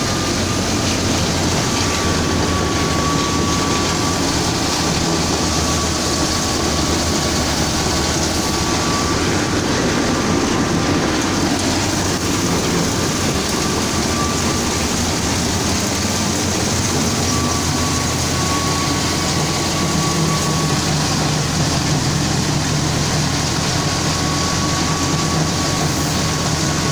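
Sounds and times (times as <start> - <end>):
thin steady whine: 0.0 - 26.9
tractor engine: 0.0 - 26.9
wheat thresher mechanical din: 0.0 - 26.9.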